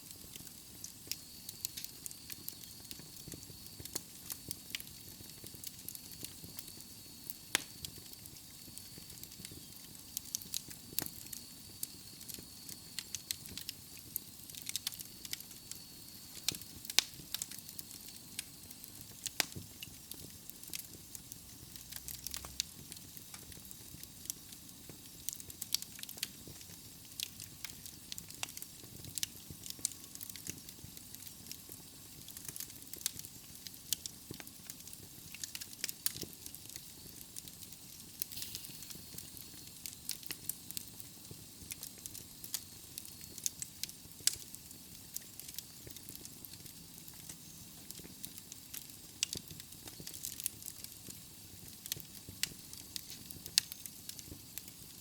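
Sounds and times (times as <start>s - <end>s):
logs crackling and popping in fire: 0.0s - 55.0s.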